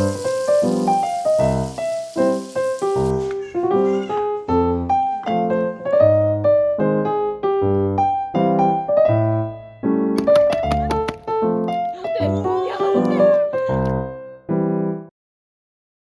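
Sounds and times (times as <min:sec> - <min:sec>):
piano playing light melody: 0:00.0 - 0:14.9.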